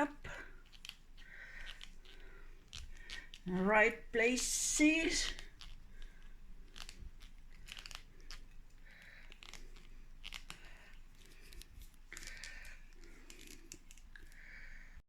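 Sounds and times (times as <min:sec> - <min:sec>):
small clicks of seeds: 0:00.2 - 0:03.5, 0:05.2 - 0:14.9
fingers scratching in soil: 0:00.6 - 0:14.1.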